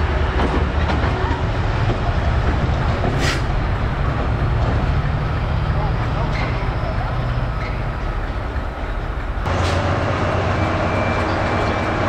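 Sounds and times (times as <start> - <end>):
train rumble: 0.0 - 12.0
train running noise: 0.0 - 12.0.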